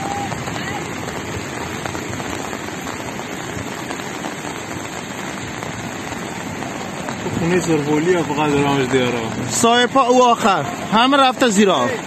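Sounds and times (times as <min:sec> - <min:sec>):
floodwater rushing down a street: 0:00.0 - 0:12.0
heavy rain falling: 0:00.0 - 0:12.0.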